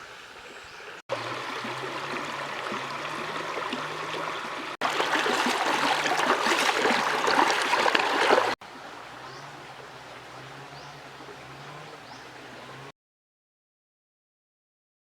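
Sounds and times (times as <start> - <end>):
river water running and splashing: 0.0 - 12.9.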